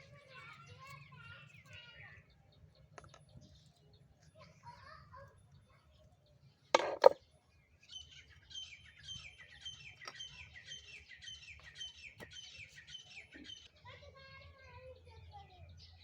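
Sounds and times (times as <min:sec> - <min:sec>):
small bird chirping: 0:00.0 - 0:13.9.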